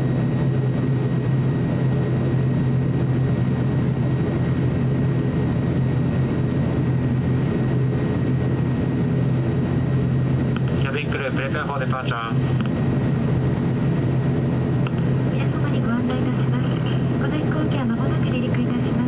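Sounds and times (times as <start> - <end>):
faint high engine whine: 0.0 - 19.0
low propeller hum: 0.0 - 19.0.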